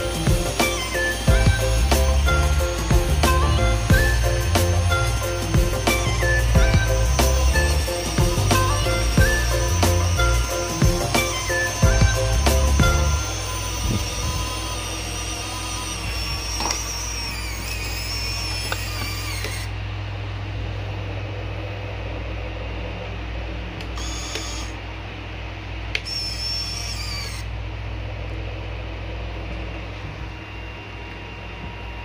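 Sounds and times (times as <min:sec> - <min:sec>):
electric winch motor whining: 0:00.0 - 0:32.0
steady low hum: 0:00.0 - 0:32.0.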